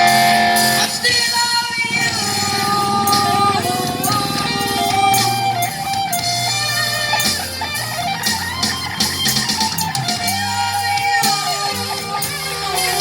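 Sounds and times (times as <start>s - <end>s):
gliding guitar melody: 0.0s - 13.0s
steady bass: 1.8s - 13.0s.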